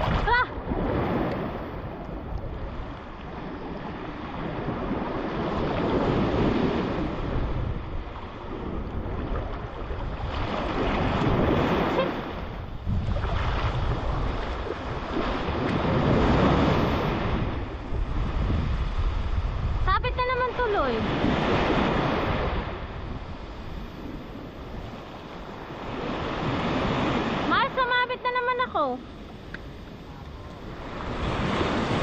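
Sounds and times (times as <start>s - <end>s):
small waves breaking on sand: 0.0s - 32.0s
wind buffeting microphone: 0.0s - 32.0s.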